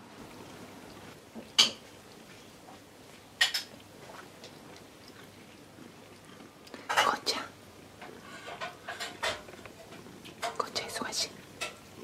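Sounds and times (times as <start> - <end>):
cat licking its fur: 0.9 - 12.0.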